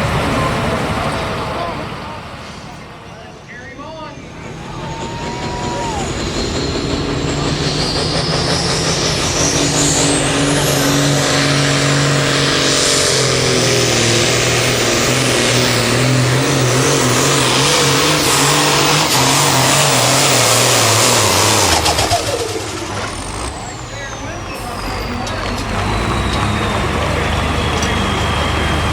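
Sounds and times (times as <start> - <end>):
diesel tractor engine at full throttle: 0.0 - 28.9
high turbo whistle: 3.4 - 28.9.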